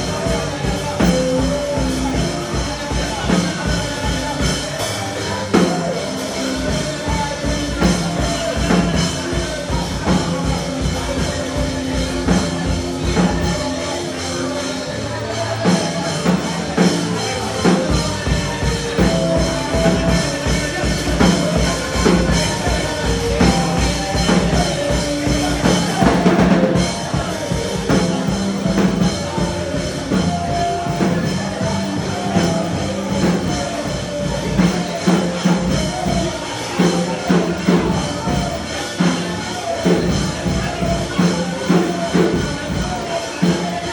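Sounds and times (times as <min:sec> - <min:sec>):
gospel band music: 0:00.0 - 0:43.9.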